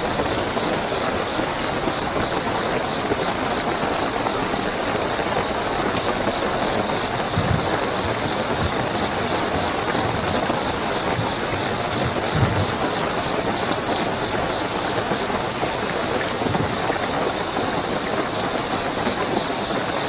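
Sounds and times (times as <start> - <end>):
crickets trilling: 0.0 - 20.0
heavy rainfall: 0.0 - 20.0.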